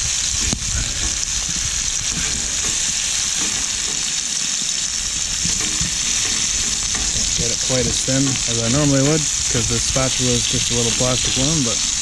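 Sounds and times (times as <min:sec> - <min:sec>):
burger patties sizzling in pan: 0:00.0 - 0:12.0
spatula scraping pan: 0:00.8 - 0:12.0.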